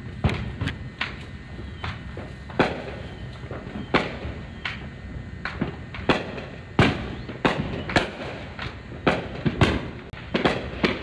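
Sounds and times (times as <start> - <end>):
firework bangs: 0.0 - 11.0
fireworks crackling and popping: 0.0 - 11.0.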